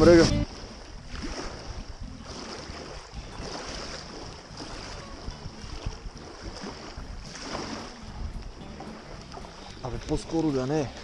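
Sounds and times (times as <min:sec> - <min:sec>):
small waves lapping: 0:00.0 - 0:11.0
wind buffeting the microphone: 0:00.0 - 0:11.0.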